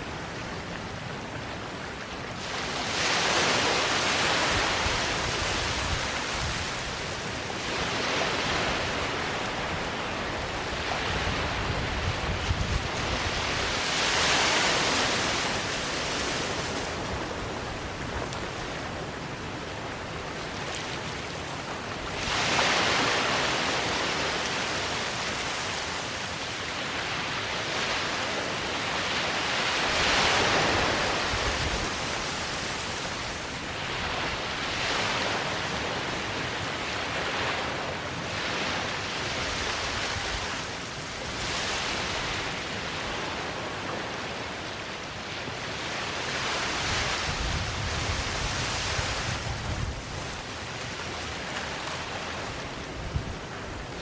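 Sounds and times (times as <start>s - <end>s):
small waves washing onto beach: 0.0s - 54.0s
wind rumble on microphone: 0.0s - 54.0s.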